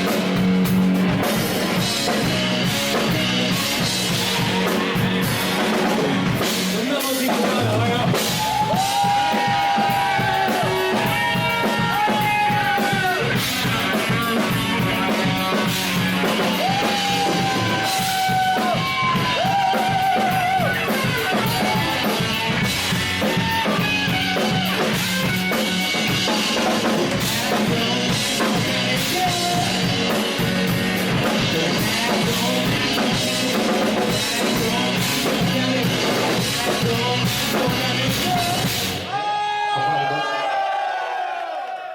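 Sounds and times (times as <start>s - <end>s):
live rock band playing: 0.0s - 39.4s.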